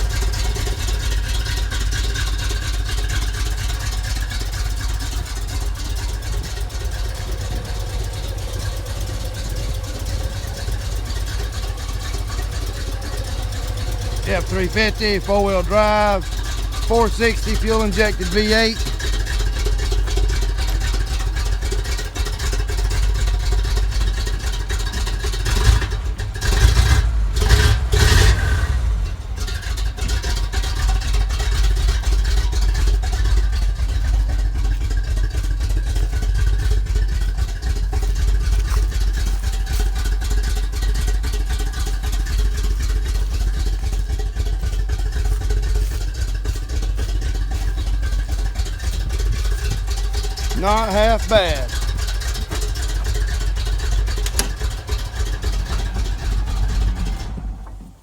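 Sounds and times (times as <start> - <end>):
truck engine idling and revving: 0.0 - 58.0.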